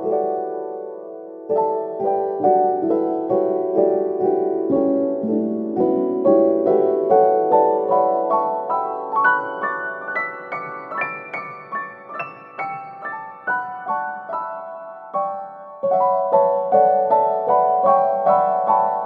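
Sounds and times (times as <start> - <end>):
piano single notes: 0.0 - 19.0.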